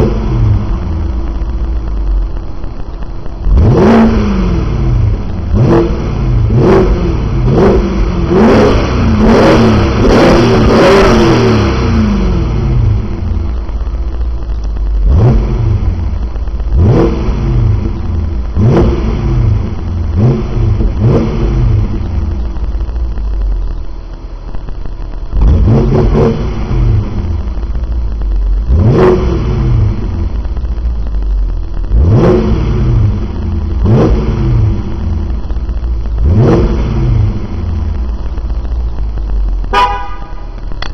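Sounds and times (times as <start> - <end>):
car engine throttle blips: 0.0 - 40.9.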